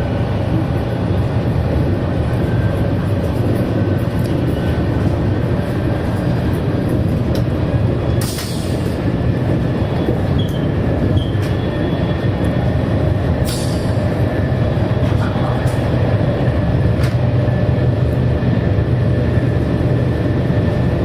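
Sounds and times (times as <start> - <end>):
train interior rumble: 0.0 - 21.0.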